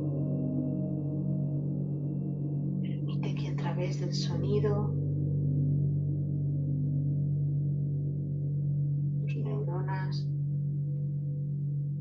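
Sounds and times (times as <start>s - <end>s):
gong ringing low drone: 0.0s - 12.0s.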